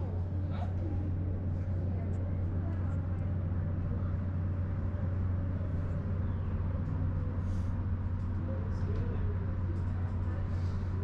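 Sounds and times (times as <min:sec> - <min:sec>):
faint voices murmuring: 0:00.0 - 0:11.0
low machine hum: 0:00.0 - 0:11.0.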